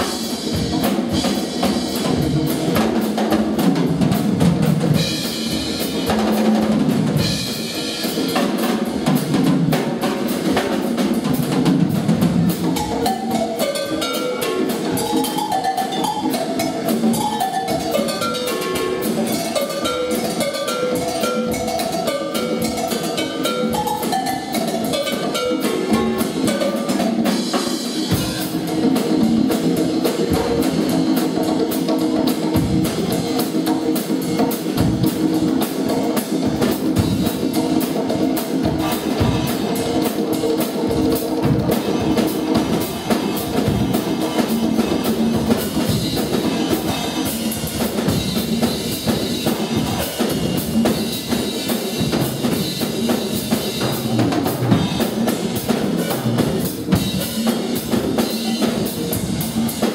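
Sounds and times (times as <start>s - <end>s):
drum hits: 0.0s - 59.9s
live rock band playing: 0.0s - 59.9s.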